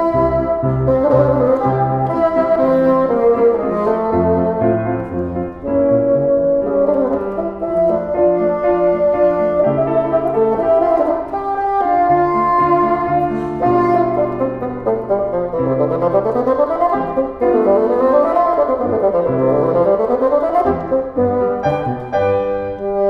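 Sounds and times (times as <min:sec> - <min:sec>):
bassoon melody: 0:00.0 - 0:23.0
piano accompaniment: 0:00.0 - 0:23.0.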